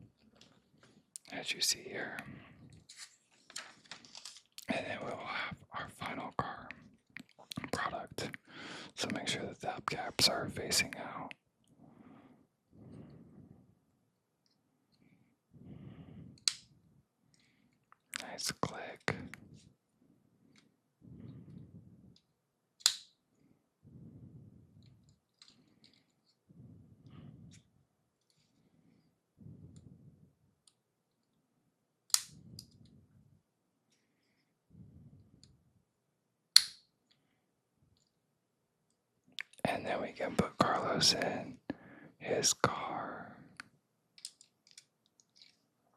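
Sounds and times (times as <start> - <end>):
soft breaths: 0.0 - 22.4, 23.3 - 31.4, 32.3 - 35.9, 37.1 - 38.2, 39.4 - 45.9.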